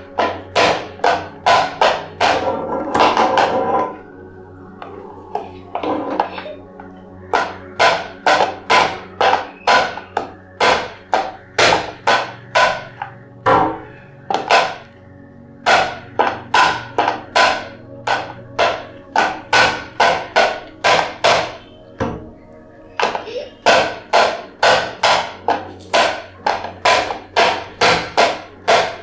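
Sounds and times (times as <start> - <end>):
hands slapping rhythmically: 0.0 - 3.9, 4.8 - 29.0.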